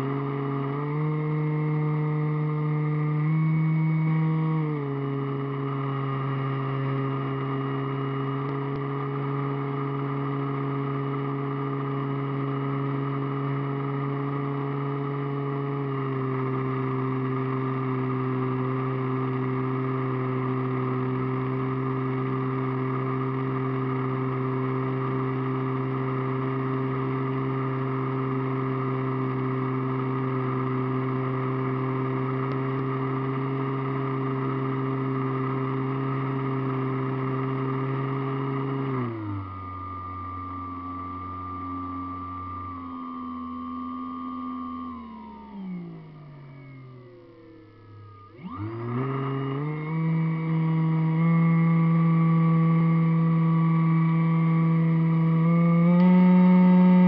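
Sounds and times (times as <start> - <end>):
model airplane motor and propeller: 0.0 - 57.0.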